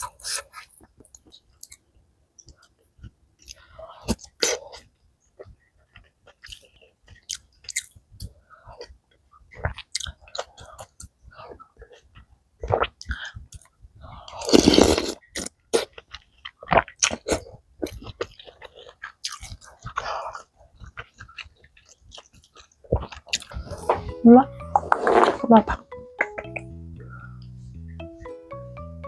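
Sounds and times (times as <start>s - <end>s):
chewing and crunching food: 0.0s - 24.0s.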